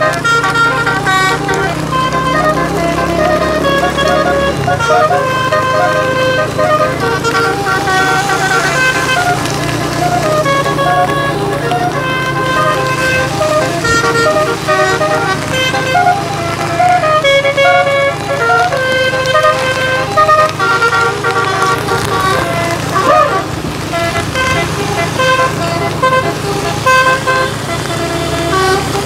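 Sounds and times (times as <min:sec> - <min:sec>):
multi-tone bus horn: 0:00.0 - 0:29.0.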